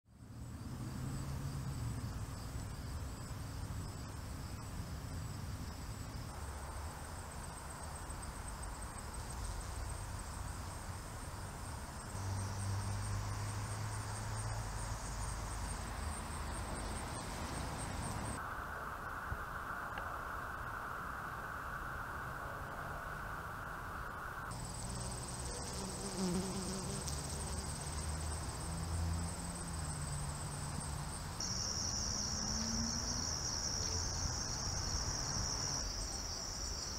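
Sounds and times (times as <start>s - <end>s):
insects trilling: 0.2s - 36.9s.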